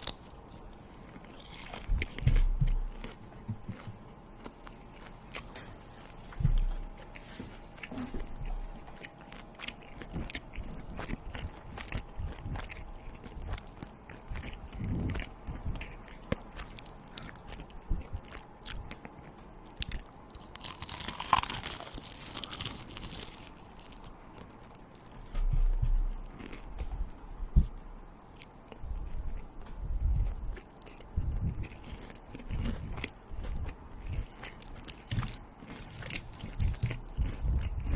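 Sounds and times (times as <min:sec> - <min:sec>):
person chewing crunchy food: 0:00.0 - 0:37.9.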